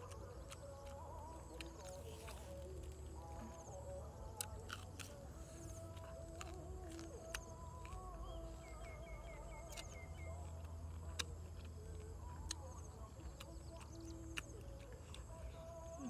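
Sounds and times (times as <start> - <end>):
low steady hum: 0.0 - 16.0
person biting and chewing food: 0.0 - 16.0
small birds chirping: 0.0 - 16.0.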